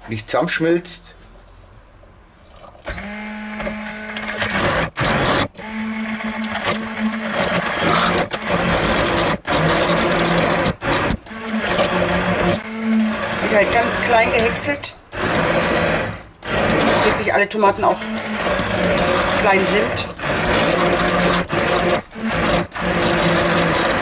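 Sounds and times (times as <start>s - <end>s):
immersion blender motor whine: 2.8s - 24.0s.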